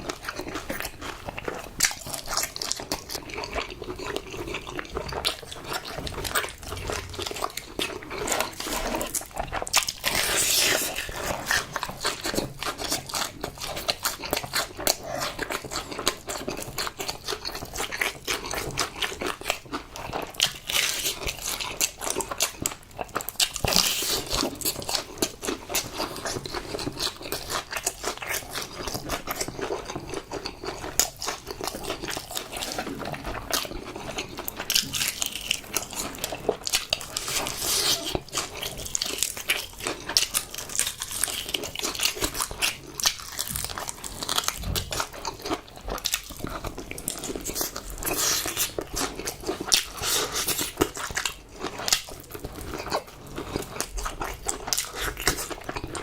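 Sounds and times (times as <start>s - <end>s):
person crunching and chewing food: 0.0s - 56.0s.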